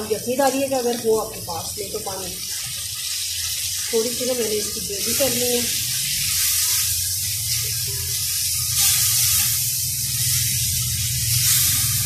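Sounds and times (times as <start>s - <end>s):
food sizzling in pot: 0.0s - 12.0s.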